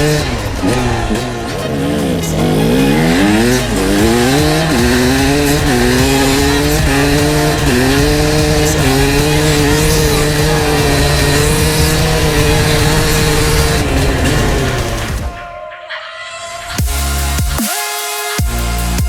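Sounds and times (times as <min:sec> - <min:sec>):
motorcycle engine accelerating: 0:00.0 - 0:15.4.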